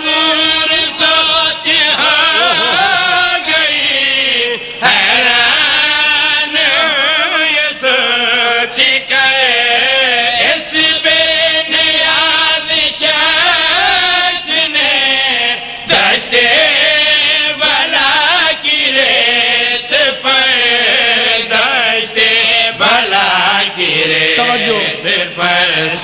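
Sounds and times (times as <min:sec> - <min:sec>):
man chanting into a microphone: 0:00.0 - 0:26.0.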